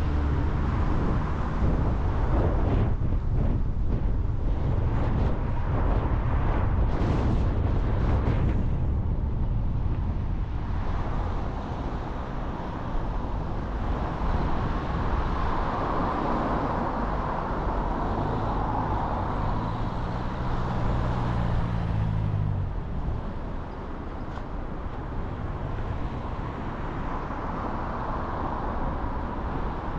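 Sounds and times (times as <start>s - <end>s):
car road and engine rumble: 0.0s - 29.9s
engine hum: 0.0s - 29.9s.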